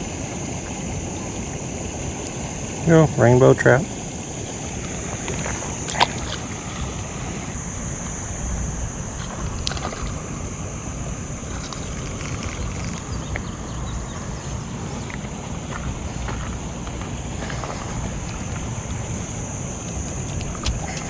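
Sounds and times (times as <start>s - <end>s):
high-pitched whine: 0.0s - 21.0s
stream water flowing: 0.0s - 21.0s
wind buffeting microphone: 0.0s - 21.0s.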